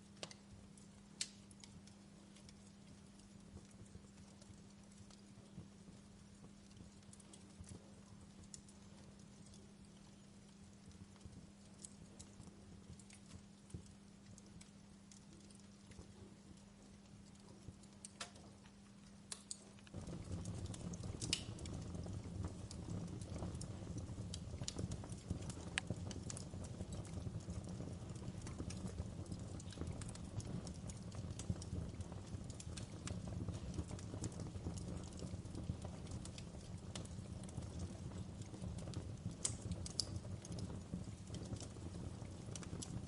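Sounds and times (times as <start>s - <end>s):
fire crackling and popping: 0.0s - 43.0s
low rumble of burning: 0.0s - 43.0s.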